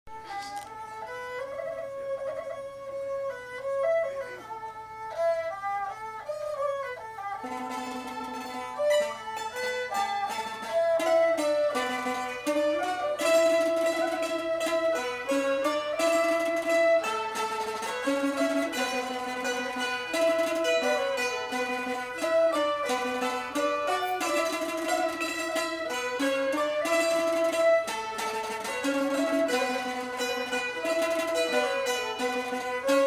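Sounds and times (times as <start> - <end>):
bowed fiddles sliding melody: 0.1 - 33.0
plucked zither: 0.2 - 33.0
hammered dulcimer: 4.4 - 33.0.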